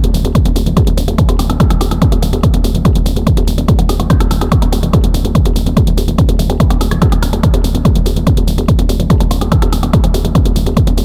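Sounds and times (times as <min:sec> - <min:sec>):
fast hi-hats: 0:00.0 - 0:11.0
kick drum: 0:00.0 - 0:11.0.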